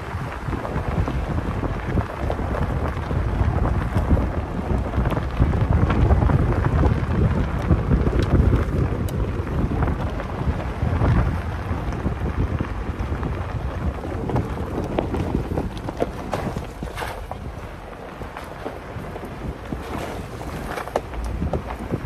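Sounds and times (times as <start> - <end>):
tyres rumbling on gravel: 0.0 - 22.0
wind buffeting microphone: 0.0 - 22.0.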